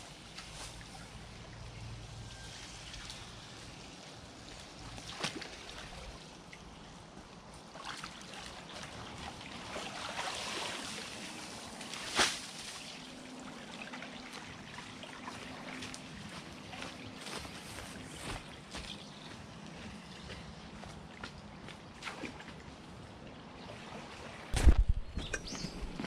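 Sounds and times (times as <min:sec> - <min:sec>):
water trickling in ditch: 0:00.0 - 0:24.5.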